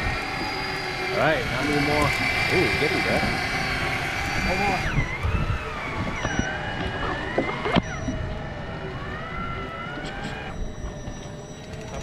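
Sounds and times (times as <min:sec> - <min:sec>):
fishing reel motor whine: 0:00.0 - 0:12.0.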